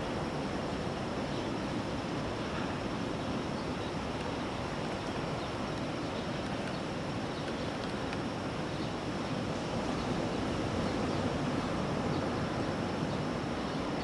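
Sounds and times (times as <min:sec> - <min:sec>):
ocean surf washing: 0:00.0 - 0:14.0
wind rumble on microphone: 0:00.0 - 0:14.0.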